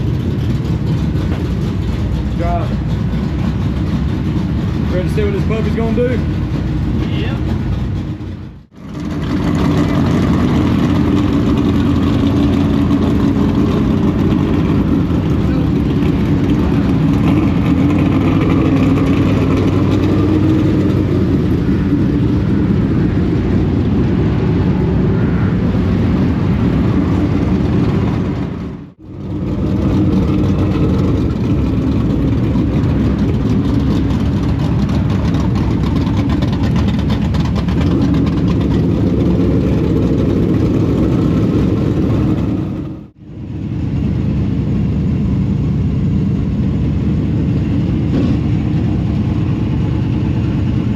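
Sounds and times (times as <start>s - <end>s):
race car engine running: 0.0s - 50.9s.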